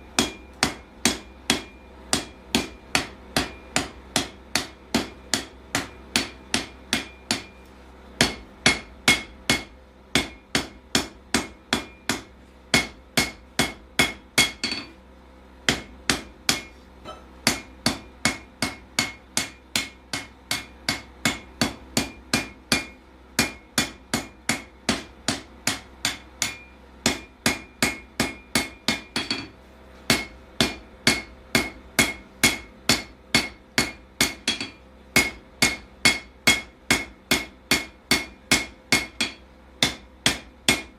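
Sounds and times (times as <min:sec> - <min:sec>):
hammer striking steel on anvil: 0:00.1 - 0:07.6, 0:08.2 - 0:15.0, 0:15.7 - 0:40.9.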